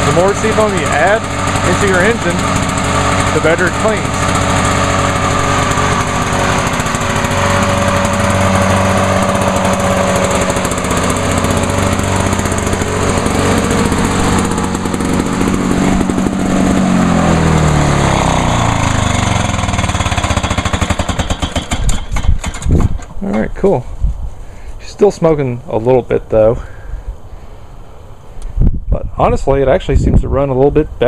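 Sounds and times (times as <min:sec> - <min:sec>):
lawn mower engine running: 0:00.0 - 0:25.7.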